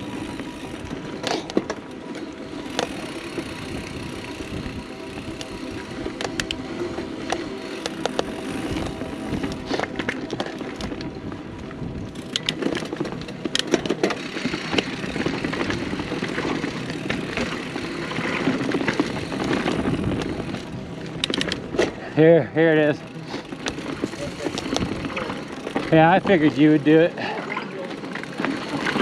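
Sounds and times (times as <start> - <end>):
bike rattling over rough ground: 0.0 - 29.0
bike tyres on dirt: 0.0 - 29.0
wind: 0.0 - 29.0.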